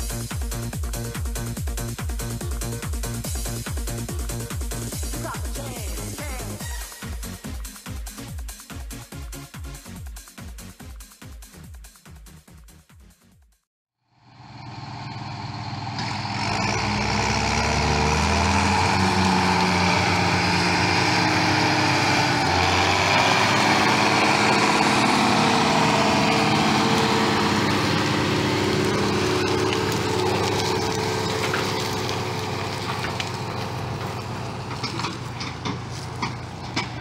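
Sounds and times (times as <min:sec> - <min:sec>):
tractor diesel engine: 0:00.0 - 0:07.6, 0:14.1 - 0:37.0.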